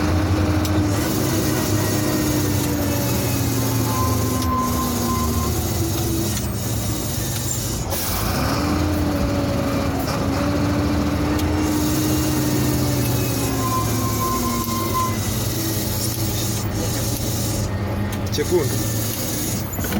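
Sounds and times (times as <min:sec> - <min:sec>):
truck diesel engine running: 0:00.0 - 0:19.9.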